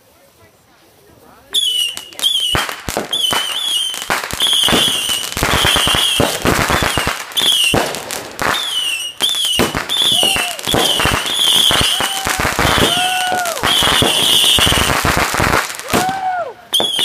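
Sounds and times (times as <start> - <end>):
firework pops and crackling: 1.4 - 17.0
firework whistles: 1.5 - 17.0.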